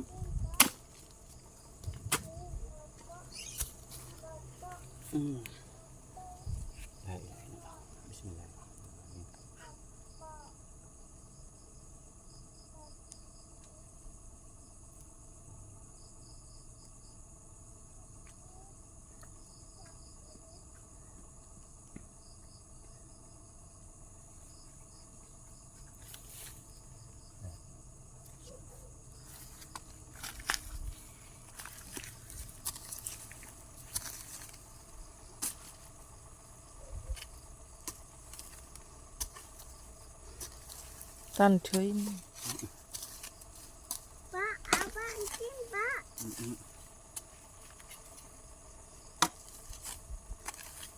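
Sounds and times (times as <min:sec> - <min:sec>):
cricket chirps: 0:00.0 - 0:50.9
insects chirring: 0:00.0 - 0:50.9.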